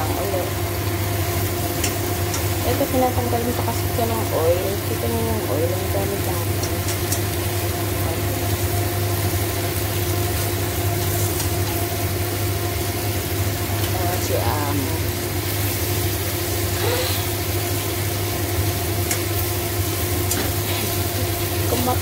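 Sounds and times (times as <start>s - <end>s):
low mechanical hum: 0.0s - 22.0s
meat sizzling in a pan: 0.0s - 22.0s.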